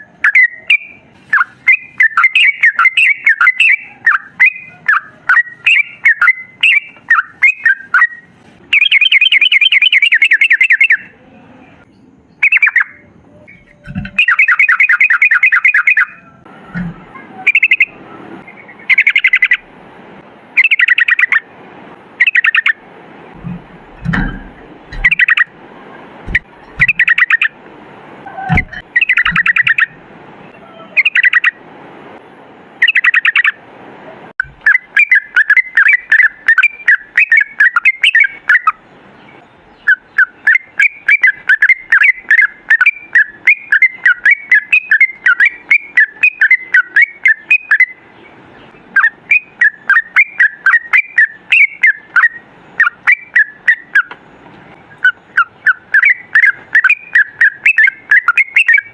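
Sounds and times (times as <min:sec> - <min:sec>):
bulbul singing: 0:00.0 - 0:19.8, 0:20.5 - 0:21.5, 0:22.1 - 0:25.6, 0:26.3 - 0:27.6, 0:28.2 - 0:31.6, 0:32.8 - 0:33.6, 0:34.4 - 0:58.9.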